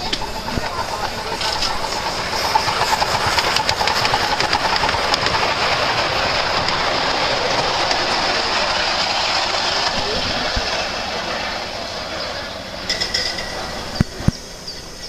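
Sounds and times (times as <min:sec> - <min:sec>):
steam locomotive hissing: 0:00.0 - 0:15.0
wheels clicking on rails: 0:00.0 - 0:15.0.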